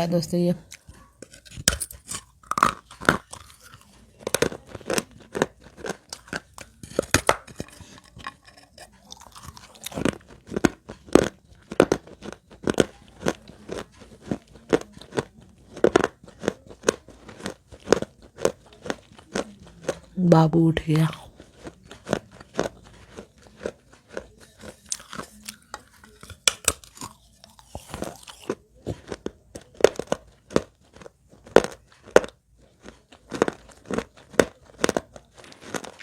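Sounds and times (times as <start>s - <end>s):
clay shards crunching when chewed: 0.6s - 20.2s, 20.9s - 36.0s.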